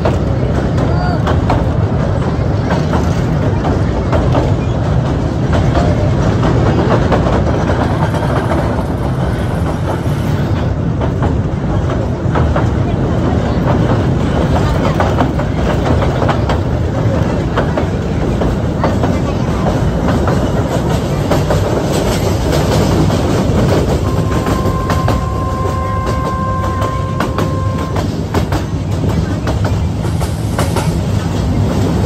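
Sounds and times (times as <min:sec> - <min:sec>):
train wheels clattering over rails: 0:00.0 - 0:32.0.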